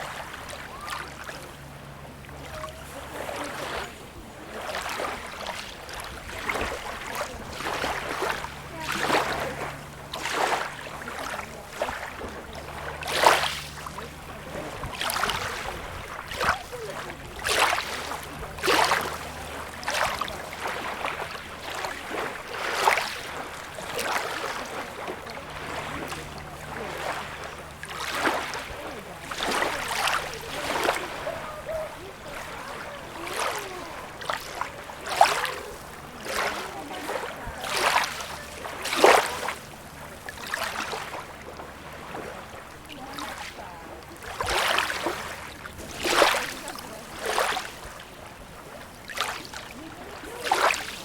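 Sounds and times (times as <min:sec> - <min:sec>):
small waves lapping: 0:00.0 - 0:51.0.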